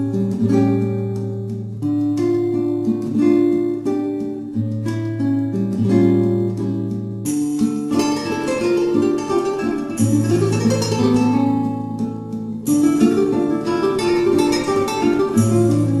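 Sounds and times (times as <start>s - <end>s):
acoustic guitar plucked and strummed: 0.0s - 16.0s.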